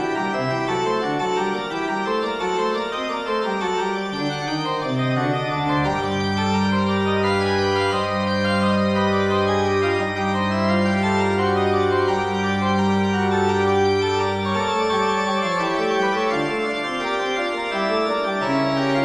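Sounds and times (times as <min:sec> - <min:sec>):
organ chords: 0:00.0 - 0:19.0.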